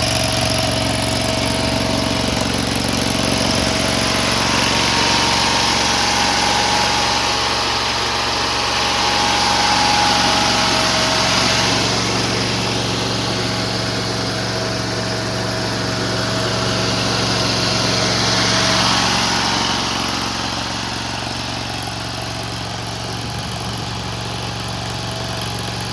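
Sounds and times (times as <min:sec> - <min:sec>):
loader engine running: 0:00.0 - 0:25.9.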